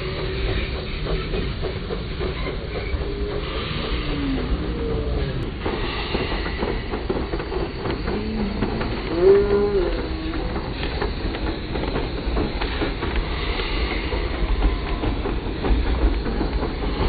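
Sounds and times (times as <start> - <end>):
miniature steam locomotive rumbling: 0.0 - 17.0
wheels clicking on rail: 0.0 - 17.0.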